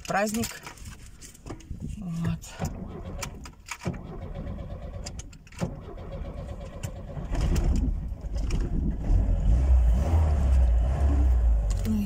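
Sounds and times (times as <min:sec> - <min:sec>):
car engine running: 0:02.3 - 0:12.0.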